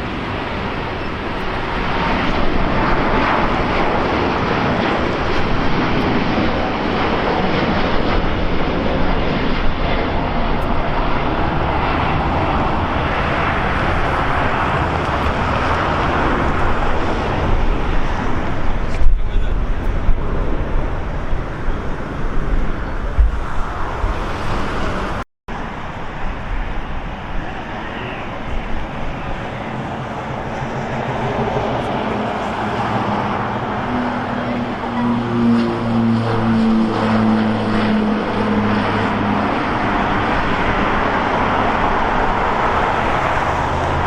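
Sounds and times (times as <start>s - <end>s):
vehicle noise: 0.0s - 44.0s
wind rumbling on microphone: 0.0s - 44.0s.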